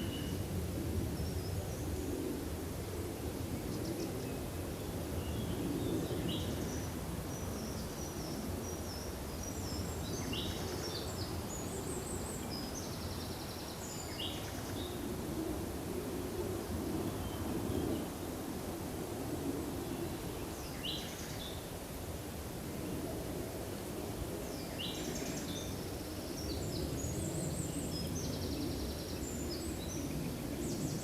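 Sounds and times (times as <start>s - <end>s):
forest background noise: 0.0s - 31.0s.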